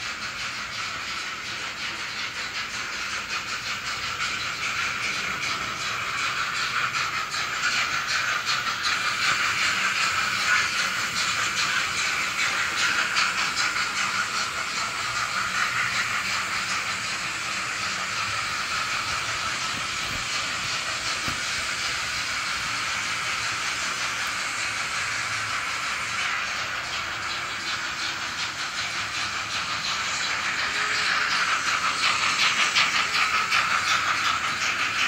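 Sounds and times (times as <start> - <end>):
steam engine chuffing through small speaker: 0.0 - 35.0.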